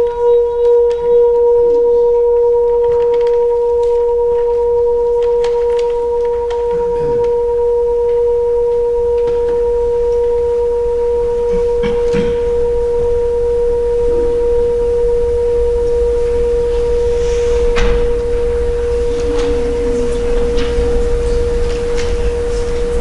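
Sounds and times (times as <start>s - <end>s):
singing bowl sustained tone: 0.0s - 23.0s.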